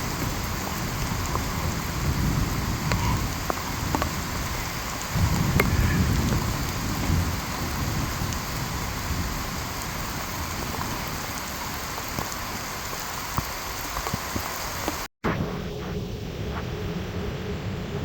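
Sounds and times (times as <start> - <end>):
rain falling: 0.0 - 15.1.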